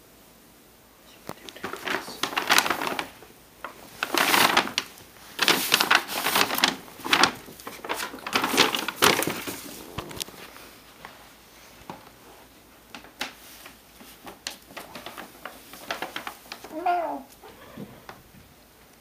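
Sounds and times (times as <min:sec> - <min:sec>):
paper bag crinkling and rustling: 0:01.3 - 0:17.4.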